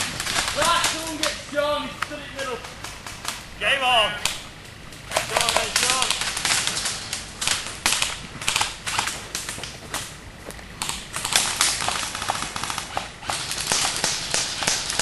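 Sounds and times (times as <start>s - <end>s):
airsoft guns firing: 0.0s - 10.2s, 10.8s - 15.0s.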